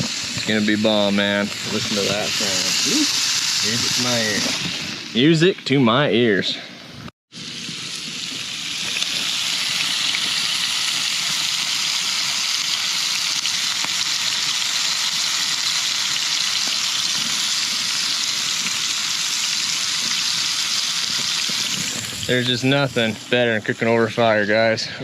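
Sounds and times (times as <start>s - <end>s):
food sizzling in a pan: 0.0s - 5.4s, 7.3s - 24.4s.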